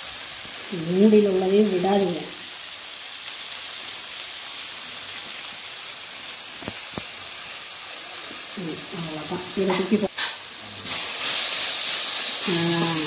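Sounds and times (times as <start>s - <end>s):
masala sizzling in a pan: 0.0s - 13.0s.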